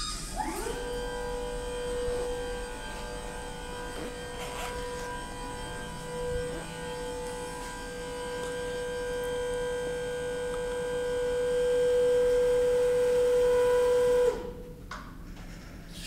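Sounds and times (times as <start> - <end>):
hydraulic pump motor whining: 0.0 - 14.8.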